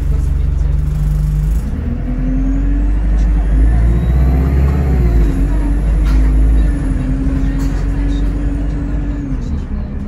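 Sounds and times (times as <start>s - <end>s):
bus engine running under load: 0.0s - 10.0s.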